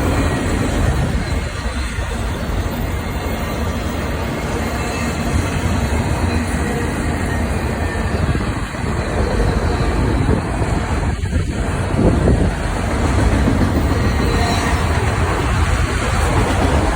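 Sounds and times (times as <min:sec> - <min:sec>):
freight train wheels rumbling on rails: 0:00.0 - 0:16.9.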